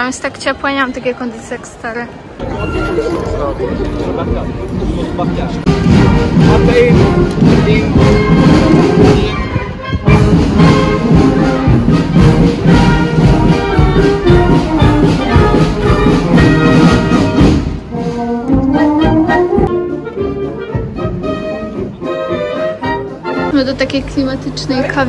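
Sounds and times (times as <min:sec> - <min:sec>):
marching band playing a march: 0:02.4 - 0:25.0.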